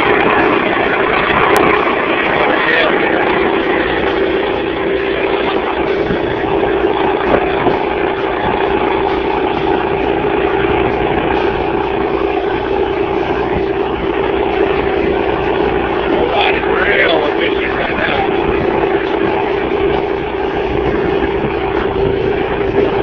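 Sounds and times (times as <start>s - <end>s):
outboard motor running: 0.0s - 23.0s
water noise: 0.0s - 23.0s
wind: 0.0s - 23.0s.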